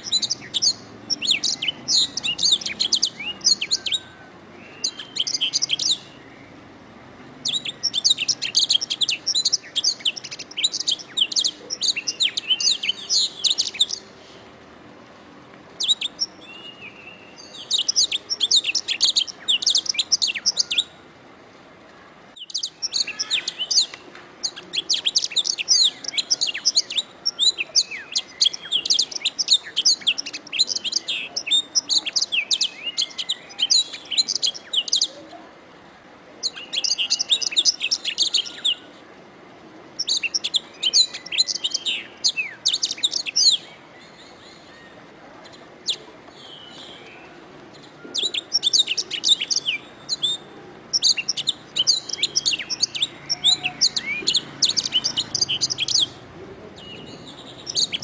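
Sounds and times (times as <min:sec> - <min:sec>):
canary singing trills and chirps: 0:00.0 - 0:06.7, 0:07.4 - 0:14.3, 0:15.8 - 0:21.0, 0:22.3 - 0:35.2, 0:36.4 - 0:39.0, 0:39.9 - 0:58.0.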